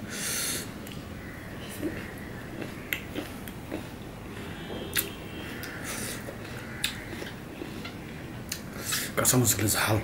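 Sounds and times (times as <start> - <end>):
person chewing juicy fruit: 0.8 - 9.1.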